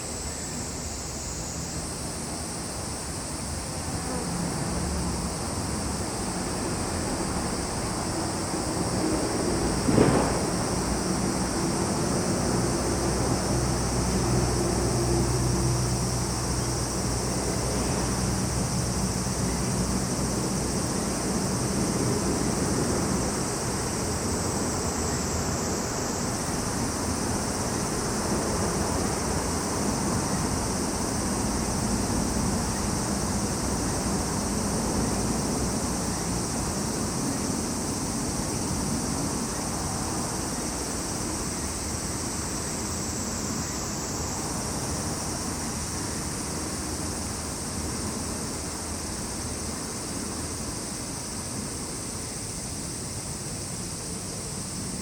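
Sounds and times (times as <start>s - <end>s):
cicadas and crickets singing: 0.0s - 55.0s.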